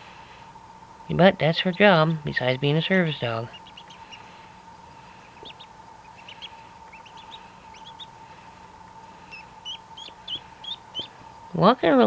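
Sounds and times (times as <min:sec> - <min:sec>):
faint steady hum: 0:00.0 - 0:12.0
duckling peeping: 0:01.6 - 0:11.4.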